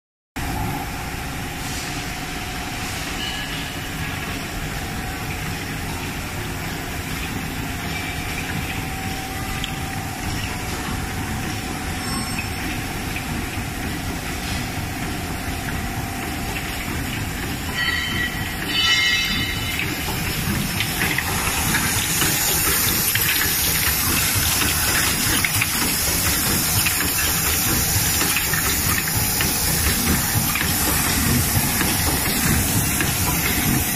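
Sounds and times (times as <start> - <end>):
filling machine clatter: 5.9 - 33.9.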